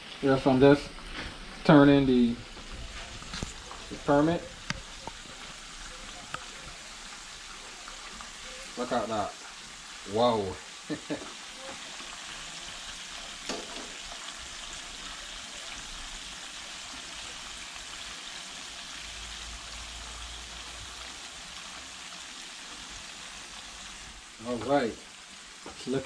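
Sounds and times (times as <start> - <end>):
fish frying in hot oil: 0.0 - 26.0.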